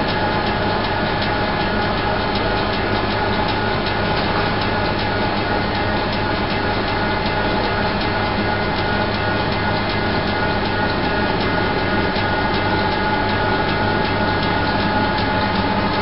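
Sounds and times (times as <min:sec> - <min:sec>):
machinery drone: 0:02.1 - 0:16.0.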